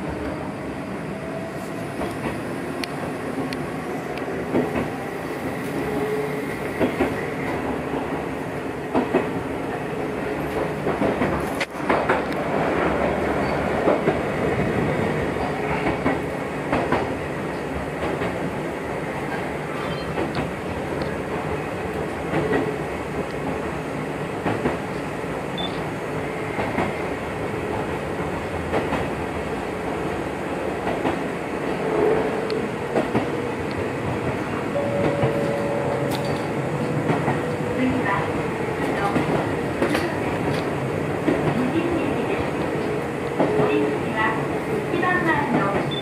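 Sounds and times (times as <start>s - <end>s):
train wheels and motors rumbling: 0.0s - 46.0s
rail joint clicks: 1.6s - 23.7s, 24.3s - 27.0s, 30.8s - 44.2s, 44.9s - 46.0s.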